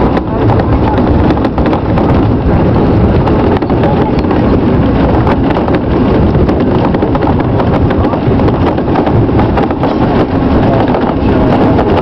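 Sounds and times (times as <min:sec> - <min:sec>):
train rumbling and rattling: 0:00.0 - 0:12.0
wind on microphone: 0:00.0 - 0:12.0.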